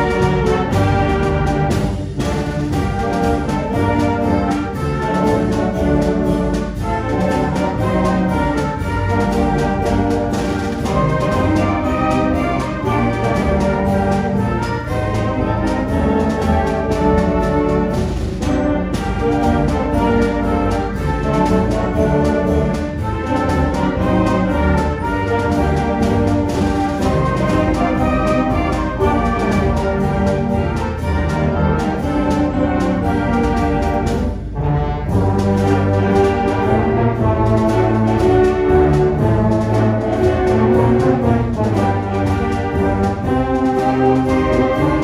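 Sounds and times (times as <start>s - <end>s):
concert band playing: 0.0s - 45.0s
low brass tubas: 0.0s - 45.0s.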